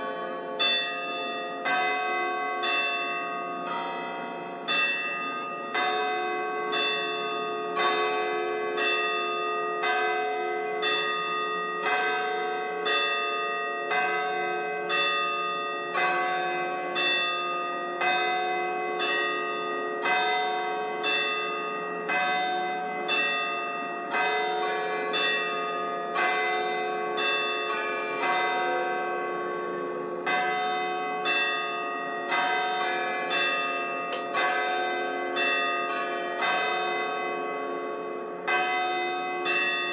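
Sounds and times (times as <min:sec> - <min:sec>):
church bells tolling: 0:00.0 - 0:39.9.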